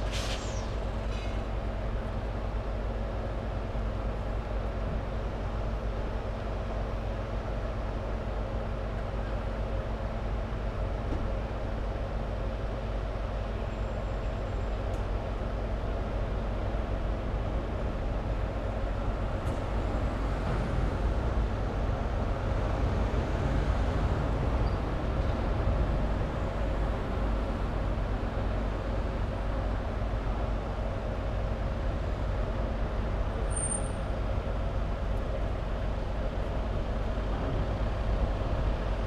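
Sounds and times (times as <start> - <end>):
diesel engine hum: 0.0 - 39.0.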